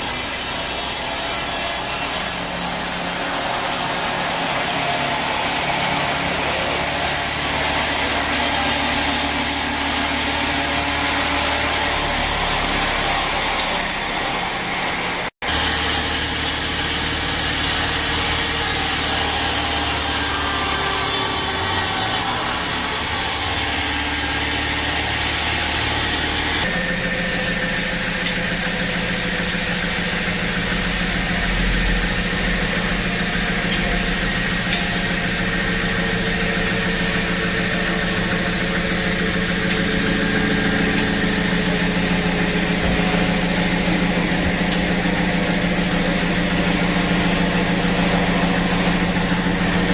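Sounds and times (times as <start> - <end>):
bandsaw sawing through wood: 0.0 - 49.9
engine running: 0.0 - 49.9.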